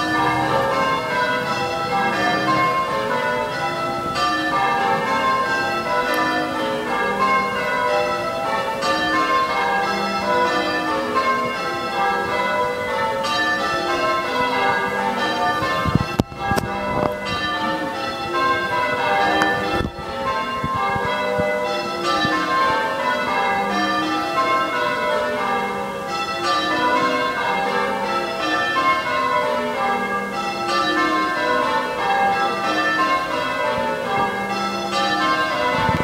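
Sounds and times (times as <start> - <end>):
church bells ringing: 0.0 - 36.0.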